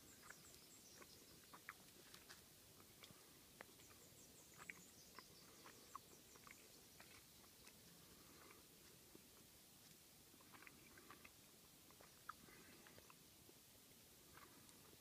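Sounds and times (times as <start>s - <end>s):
animal chewing and licking: 0.0s - 13.6s, 14.2s - 15.0s.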